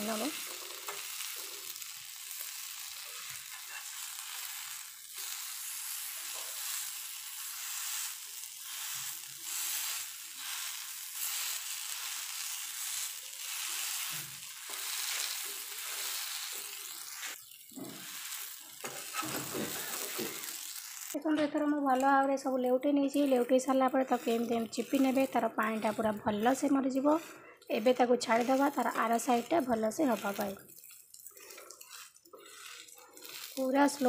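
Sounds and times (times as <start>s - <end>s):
cauliflower sizzling in oil: 0.0s - 34.0s.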